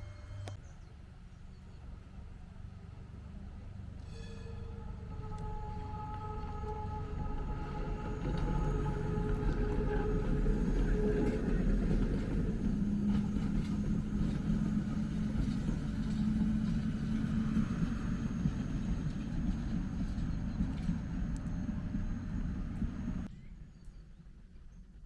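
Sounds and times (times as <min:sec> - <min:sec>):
low motor hum: 0:00.0 - 0:23.3
railcar rumbling: 0:00.0 - 0:23.3.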